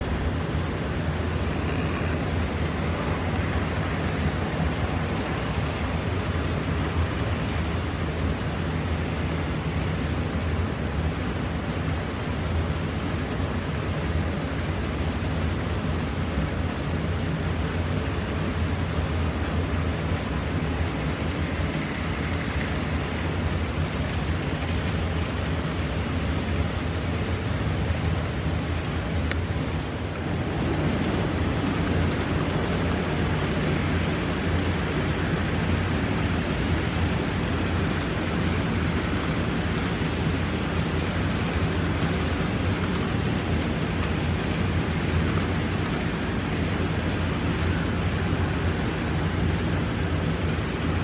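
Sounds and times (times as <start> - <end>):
model train motor hum: 0.0 - 15.5, 16.1 - 51.0.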